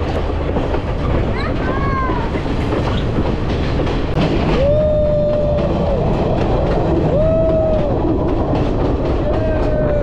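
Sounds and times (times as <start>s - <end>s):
train rumble and wheel clatter: 0.0s - 10.0s.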